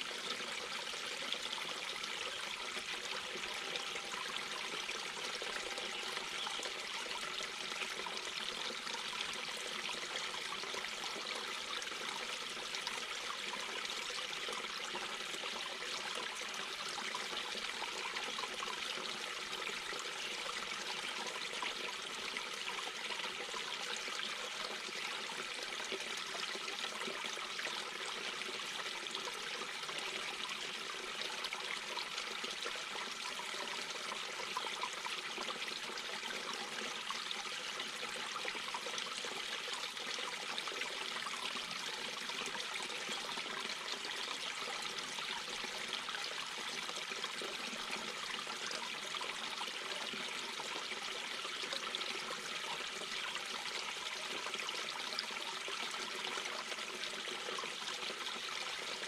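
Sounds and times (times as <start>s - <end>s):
brook water flowing over stones: 0.0s - 59.0s.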